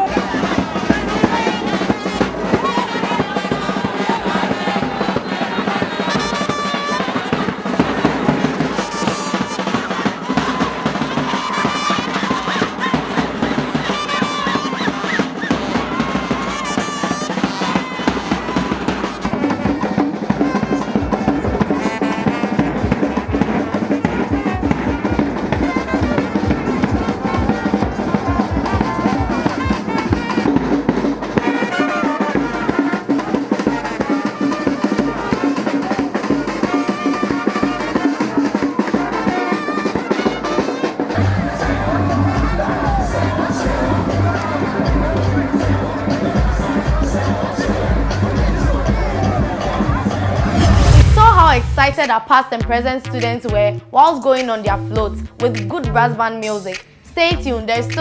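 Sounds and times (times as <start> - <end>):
brass band playing: 0.0 - 52.1
snare and bass drums: 0.0 - 53.7.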